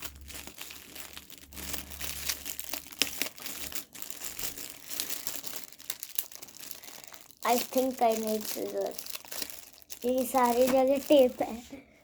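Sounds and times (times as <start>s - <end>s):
wrapping paper crinkling: 0.0s - 11.8s.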